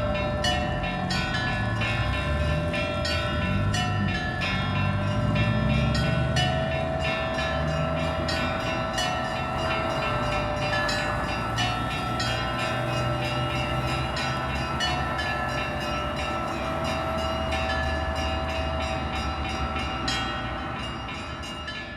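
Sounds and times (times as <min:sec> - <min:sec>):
church bells ringing in a full peal: 0:00.0 - 0:21.9.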